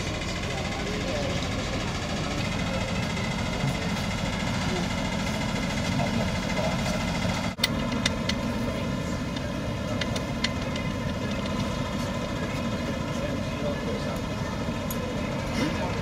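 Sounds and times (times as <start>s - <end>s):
ship engine humming: 0.0s - 16.0s.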